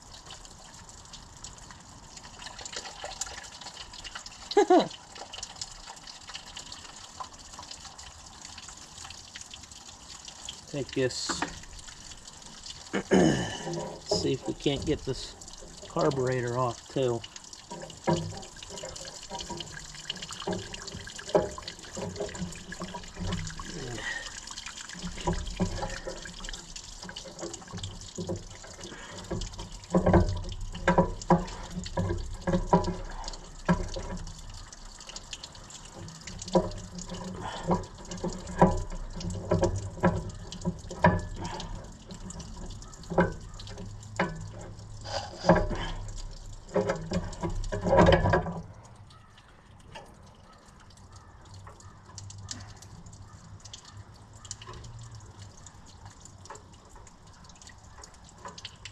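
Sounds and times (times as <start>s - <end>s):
trickle of draining liquid: 0.0s - 58.9s.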